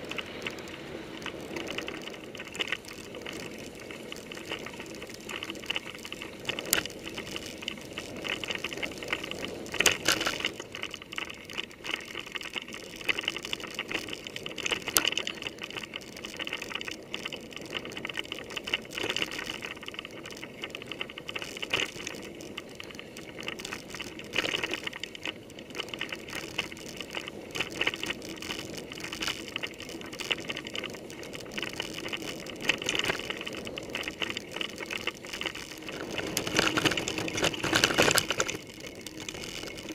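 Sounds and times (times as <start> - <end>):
bike tyres and frame rattling: 0.0 - 39.9.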